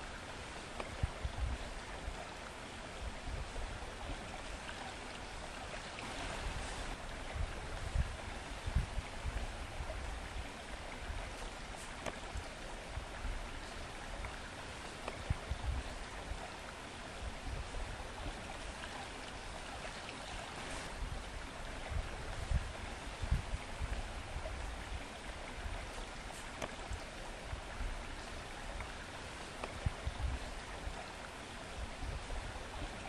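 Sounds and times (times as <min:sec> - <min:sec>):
stream water rushing: 0:00.0 - 0:33.0.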